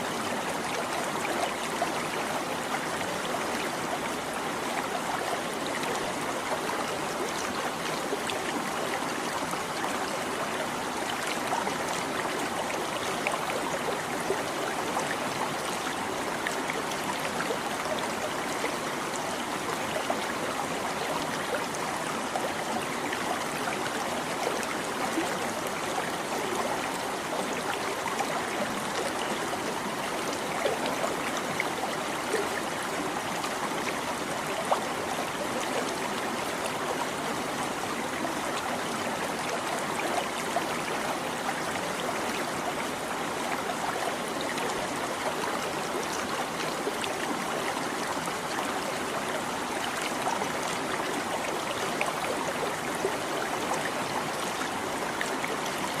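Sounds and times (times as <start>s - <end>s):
small stream babbling: 0.0s - 56.0s.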